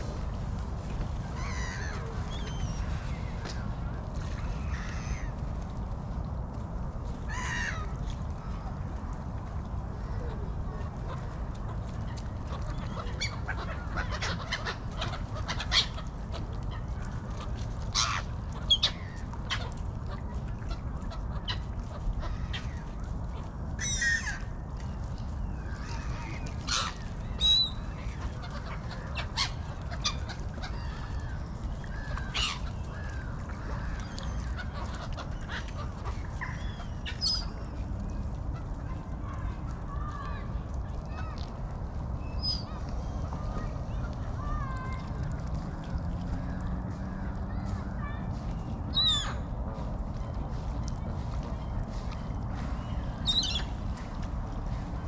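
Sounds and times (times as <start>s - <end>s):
gulls calling: 10.0s - 55.0s.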